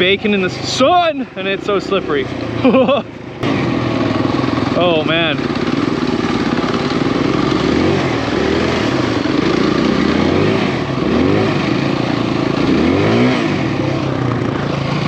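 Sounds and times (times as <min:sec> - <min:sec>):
dirt bike engine running: 0:00.0 - 0:15.0
engine throttle blips: 0:00.0 - 0:15.0.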